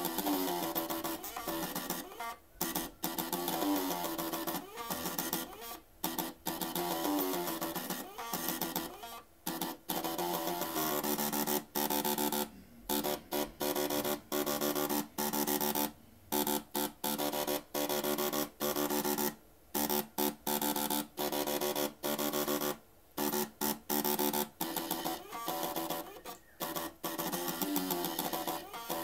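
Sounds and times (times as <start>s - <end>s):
floppy drive motors buzzing notes: 0.0s - 29.0s.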